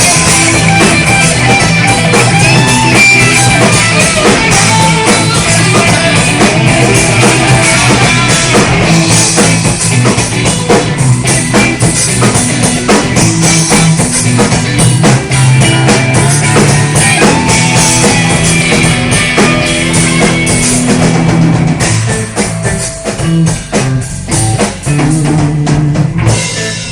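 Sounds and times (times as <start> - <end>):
drum kit hits: 0.0 - 26.9
guitar: 0.0 - 26.9.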